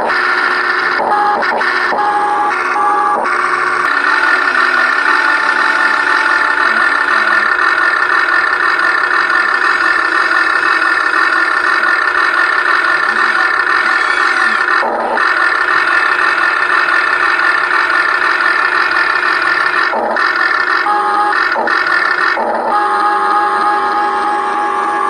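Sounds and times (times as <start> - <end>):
toy excavator mechanical whirring: 0.0 - 25.0.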